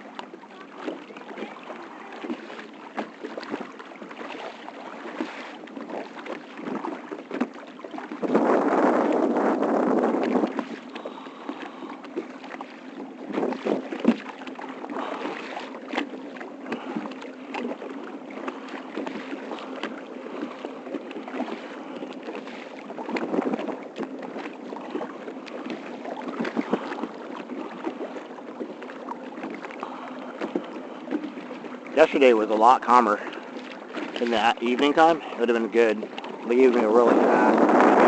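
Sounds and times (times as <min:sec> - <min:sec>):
paddle splashes: 0:00.0 - 0:38.0
water lapping around kayak: 0:00.0 - 0:38.0.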